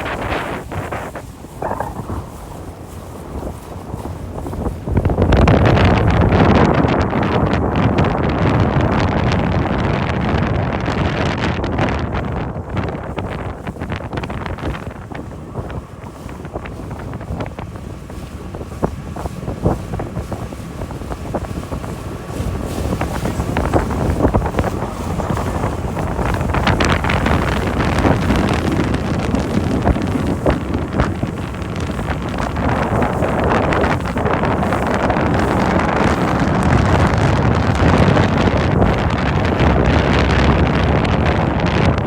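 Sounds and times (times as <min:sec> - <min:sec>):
rushing water: 0:00.0 - 0:12.1, 0:12.8 - 0:42.0
boat engine rumble: 0:00.0 - 0:42.0
wind buffeting microphone: 0:00.0 - 0:42.0.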